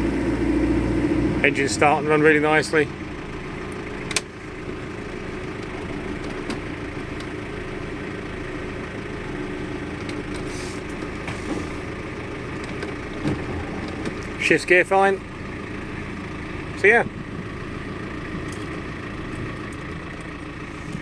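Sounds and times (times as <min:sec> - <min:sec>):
marine diesel engines idling: 0:00.0 - 0:20.9.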